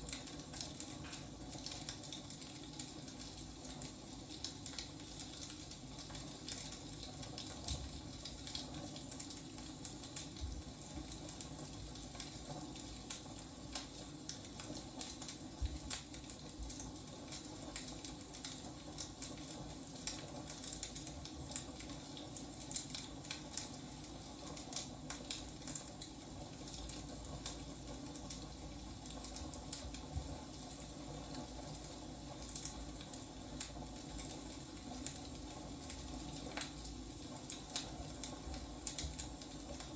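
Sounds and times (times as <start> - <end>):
firewood crackling and popping: 0.0 - 39.9
low fire hiss: 0.0 - 39.9.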